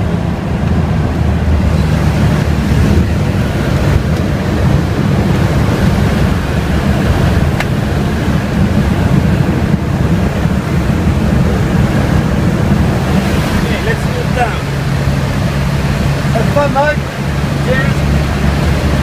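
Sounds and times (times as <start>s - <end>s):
piston engine drone: 0.0s - 19.0s
wind buffeting microphone: 0.0s - 19.0s
wind roaring past open door: 0.0s - 19.0s.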